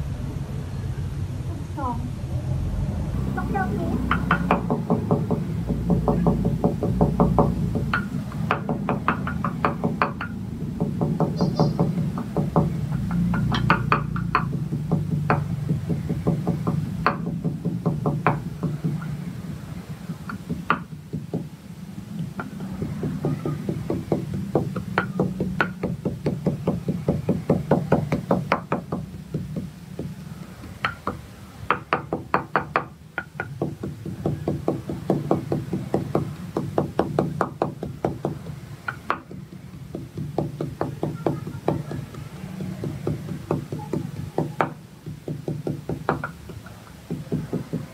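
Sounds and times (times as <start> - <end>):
pestle pounding in mortar: 4.0 - 21.5, 22.2 - 47.9.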